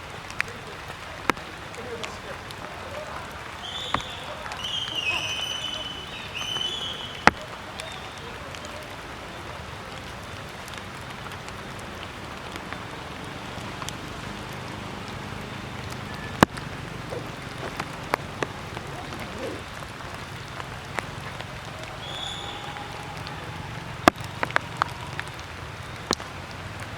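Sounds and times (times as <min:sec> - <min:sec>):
water drops pattering on leaves: 0:00.0 - 0:26.9.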